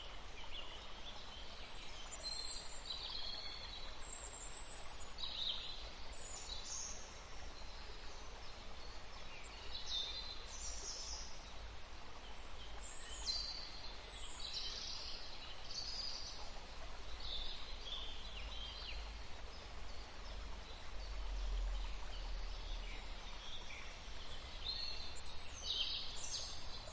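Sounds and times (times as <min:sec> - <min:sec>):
running water hiss: 0:00.0 - 0:26.9.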